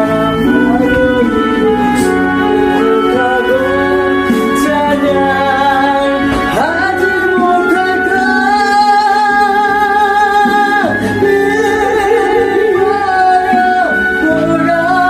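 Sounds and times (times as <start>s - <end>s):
instrumental accompaniment: 0.0s - 15.0s
person singing gospel song: 0.0s - 15.0s.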